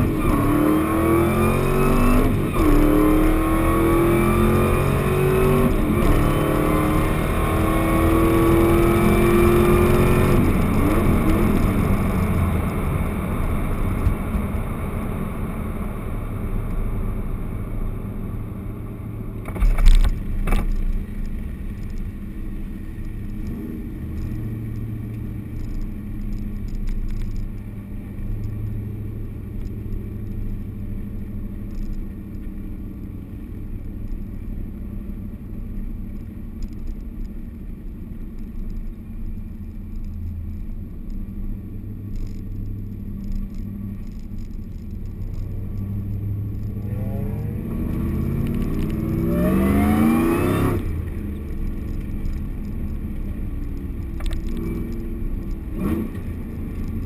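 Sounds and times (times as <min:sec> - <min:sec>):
truck engine running and revving: 0:00.0 - 0:32.2, 0:42.1 - 0:57.0.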